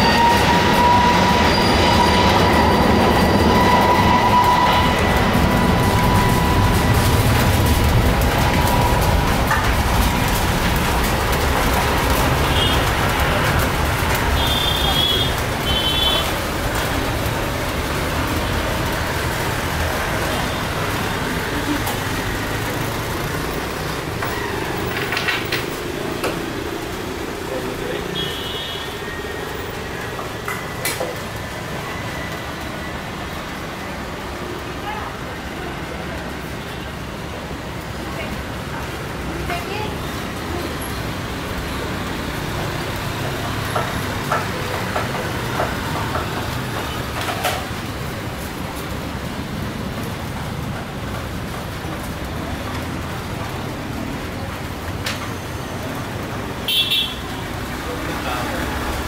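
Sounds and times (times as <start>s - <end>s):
distant jet engines at takeoff: 0.0s - 56.6s.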